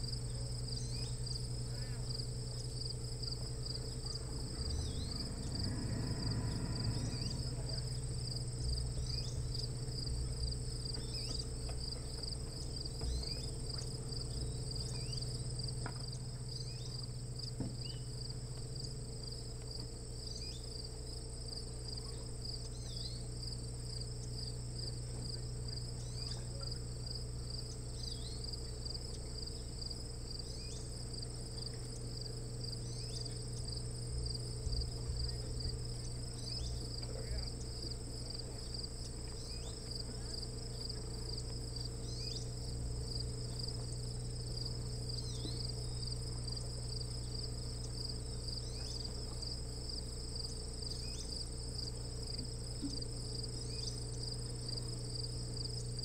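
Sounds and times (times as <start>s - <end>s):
crickets chirping: 0.0s - 56.0s
low steady hum: 0.0s - 56.0s.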